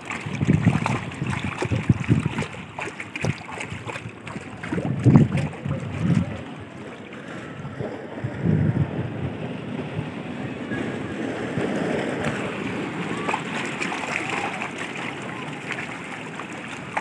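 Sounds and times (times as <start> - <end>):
seawater washing over rocks: 0.0 - 9.0, 9.9 - 17.0
wind buffeting microphone: 0.0 - 17.0.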